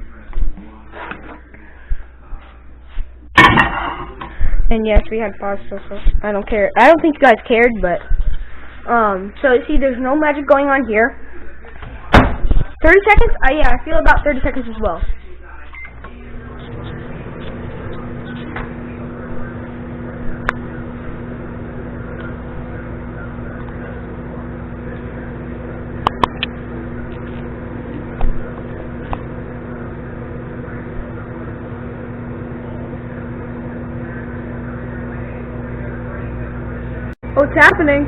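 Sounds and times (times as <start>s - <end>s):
microwave oven humming: 0.0s - 38.0s.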